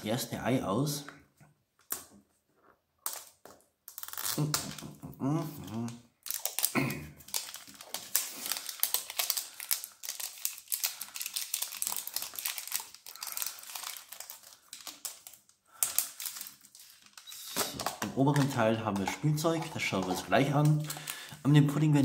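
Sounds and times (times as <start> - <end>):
plastic wrapper tearing and crinkling: 3.0 - 21.3.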